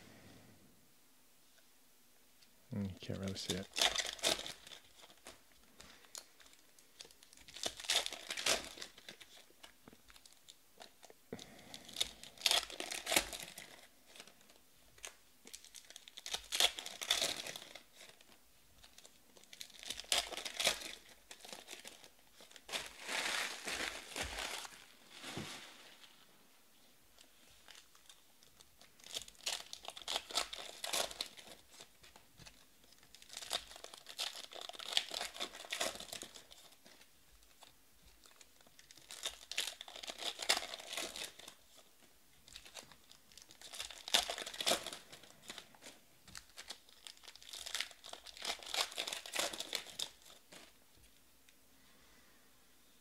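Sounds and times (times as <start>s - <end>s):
card pack wrappers crinkling and tearing: 3.1s - 26.3s, 27.2s - 51.2s.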